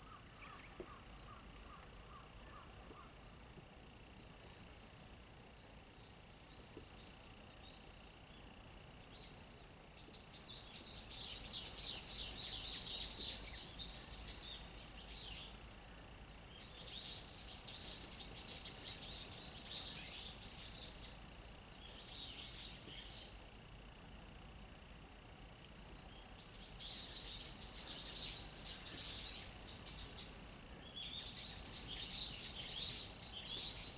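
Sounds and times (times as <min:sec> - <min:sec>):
songbird chirping: 0:00.0 - 0:23.5, 0:25.6 - 0:33.9
faint high-pitched hum: 0:00.0 - 0:33.9.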